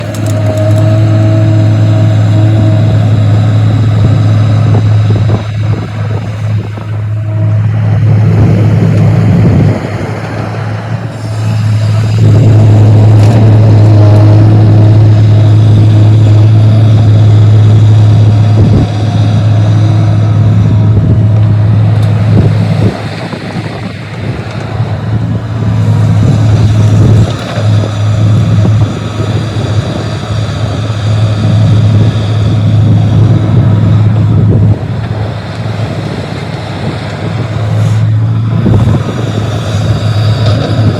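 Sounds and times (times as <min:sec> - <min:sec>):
excavator engine humming: 0:00.0 - 0:40.9.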